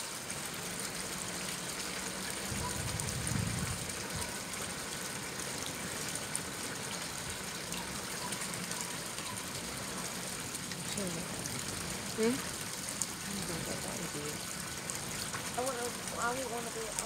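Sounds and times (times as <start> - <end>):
rain: 0.0 - 17.0
running water: 0.0 - 17.0.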